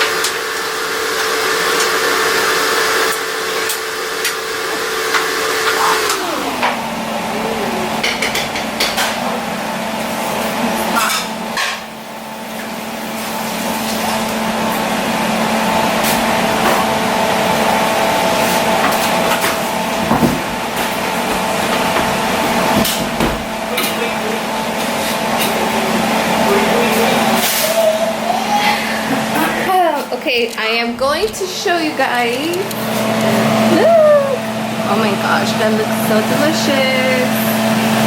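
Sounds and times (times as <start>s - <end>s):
steady hum: 3.4s - 38.0s.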